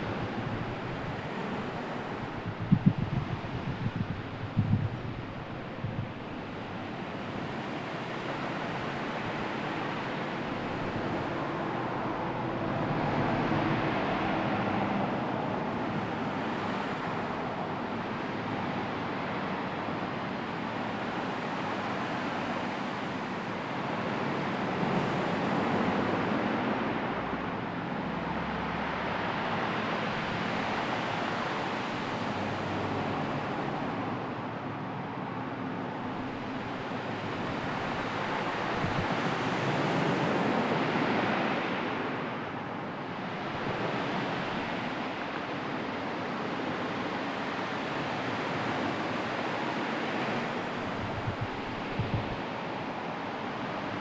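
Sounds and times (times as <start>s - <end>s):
waves washing: 0.0s - 54.0s
wind: 0.0s - 54.0s.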